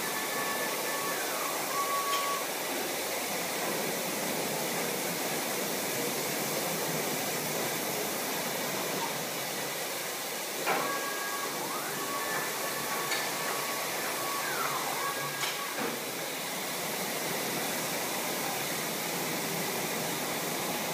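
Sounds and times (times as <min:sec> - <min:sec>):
high-pressure water spraying: 0:00.0 - 0:20.9.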